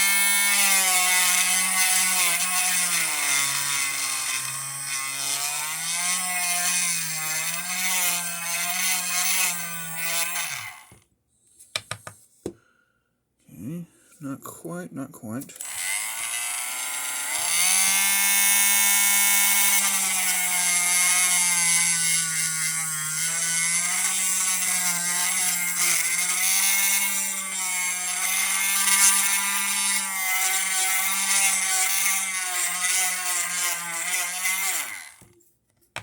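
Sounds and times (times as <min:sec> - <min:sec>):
rotary tool grinding plastic: 0:00.0 - 0:11.0, 0:15.5 - 0:35.4.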